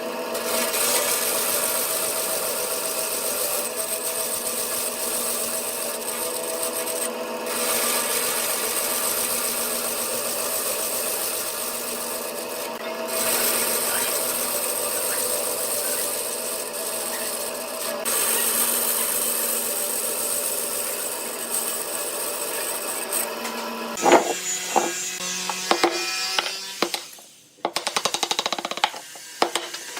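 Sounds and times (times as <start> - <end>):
wood lathe turning wood: 0.0 - 29.9.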